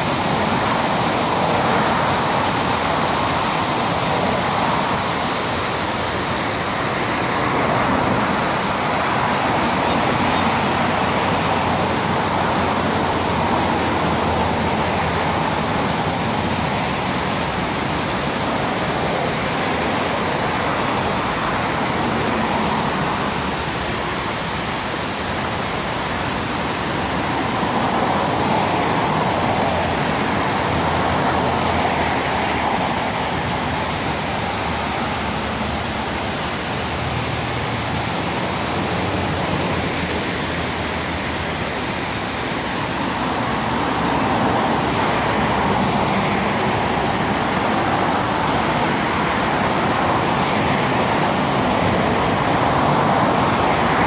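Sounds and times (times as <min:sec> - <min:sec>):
water rushing over a dam spillway: 0:00.0 - 0:54.0.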